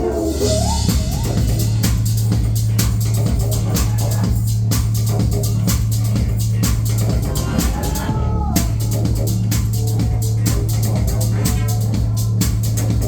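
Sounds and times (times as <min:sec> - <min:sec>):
drum-kit beat: 0:00.0 - 0:13.0
heavy bass and synth: 0:00.0 - 0:13.0.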